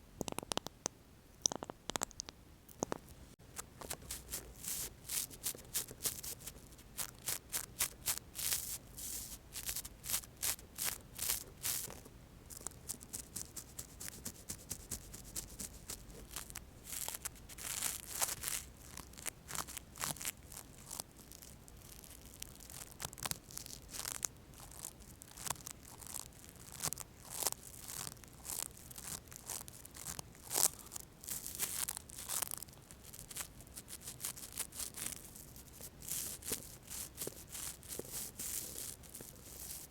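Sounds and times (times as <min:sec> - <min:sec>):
toothbrush bristles brushing: 0:03.8 - 0:32.6, 0:33.2 - 0:39.9.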